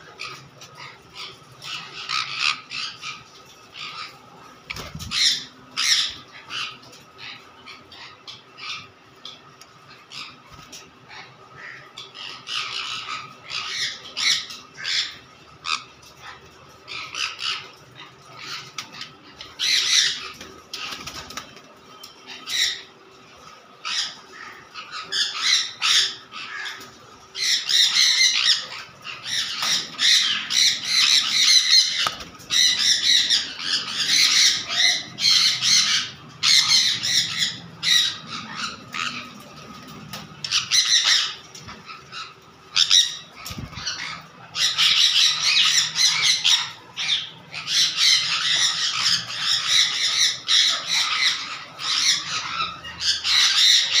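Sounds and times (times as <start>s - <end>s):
parrots screeching: 0.0s - 21.5s, 22.2s - 54.0s.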